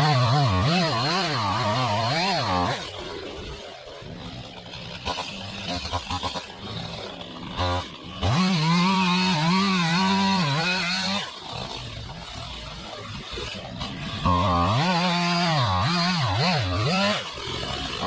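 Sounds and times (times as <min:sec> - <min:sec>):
two-stroke chainsaw revving: 0:00.0 - 0:18.0.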